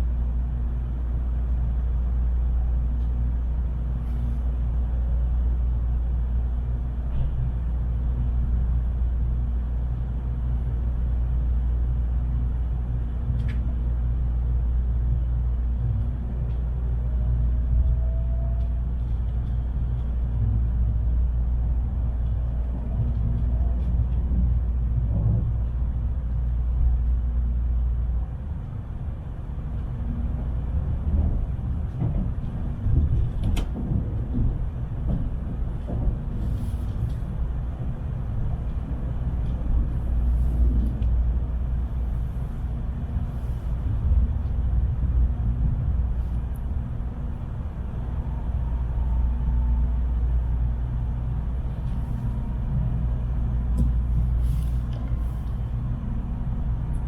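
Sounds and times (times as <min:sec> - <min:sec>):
train cabin rumble: 0:00.0 - 0:57.0.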